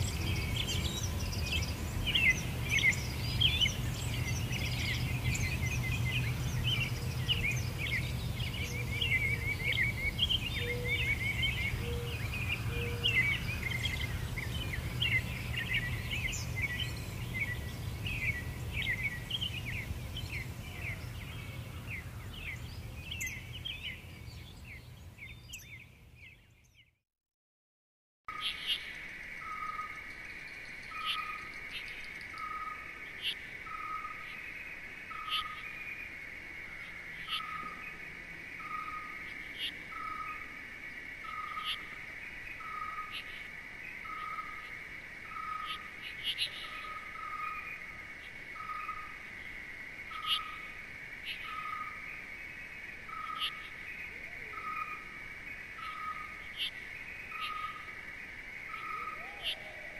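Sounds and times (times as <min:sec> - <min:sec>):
high insect chorus: 0:00.0 - 0:24.9, 0:28.3 - 0:59.9.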